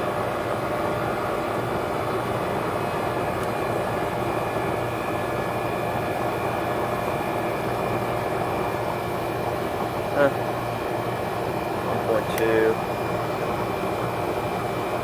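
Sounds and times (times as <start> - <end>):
air conditioner fan rushing: 0.0 - 15.0.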